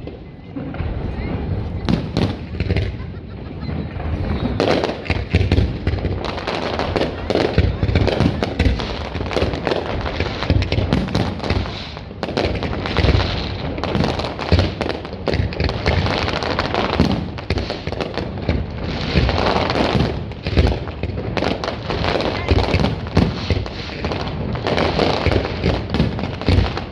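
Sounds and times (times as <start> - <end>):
fireworks booming and crackling: 0.0 - 26.9.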